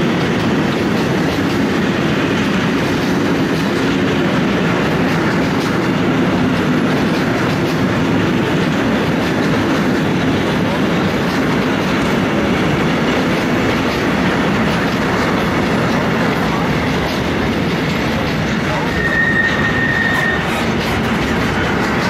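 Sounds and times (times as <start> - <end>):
freight train rolling past: 0.0 - 22.0
wheels clicking over rails: 0.0 - 22.0.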